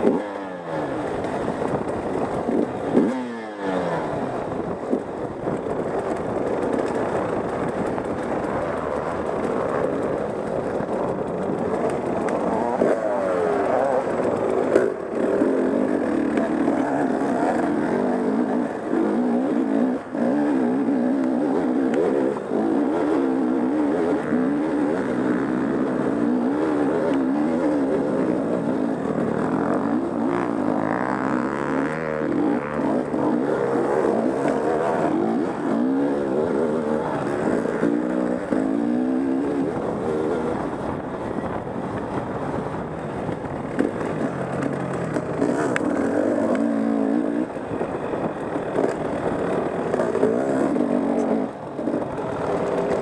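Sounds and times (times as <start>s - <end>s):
dirt bike engine revving: 0.0s - 5.1s, 5.8s - 41.4s, 43.5s - 53.0s.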